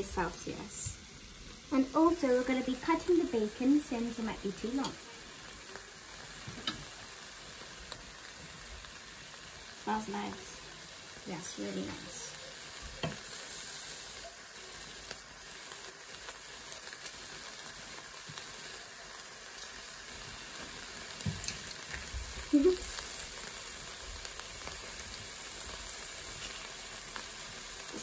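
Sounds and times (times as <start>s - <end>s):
bacon sizzling in a skillet: 0.0s - 28.0s.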